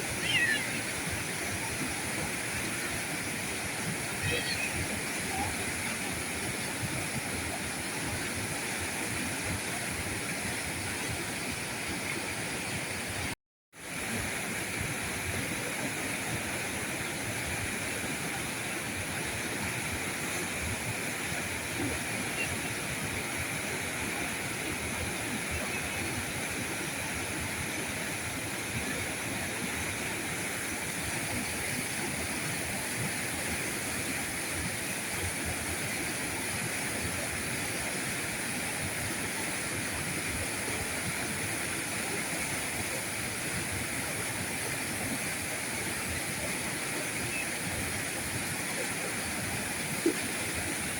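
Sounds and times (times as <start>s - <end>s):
river rushing over rocks: 0.0s - 50.9s.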